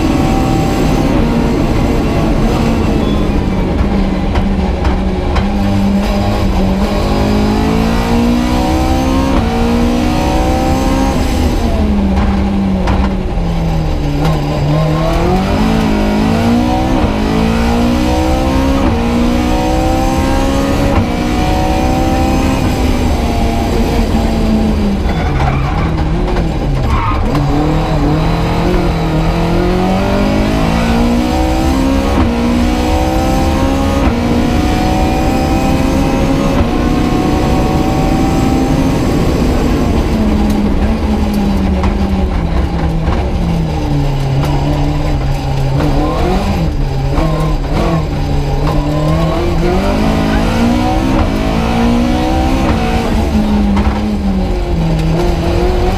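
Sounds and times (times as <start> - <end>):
car engine revving: 0.0 - 55.9
road and gravel noise: 0.0 - 55.9.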